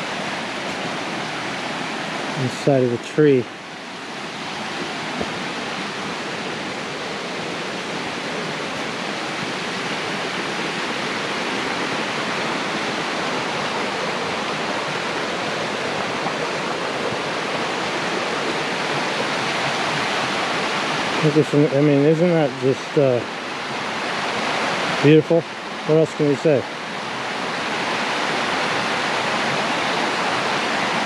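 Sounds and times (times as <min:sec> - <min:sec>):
rushing creek water: 0:00.0 - 0:31.0.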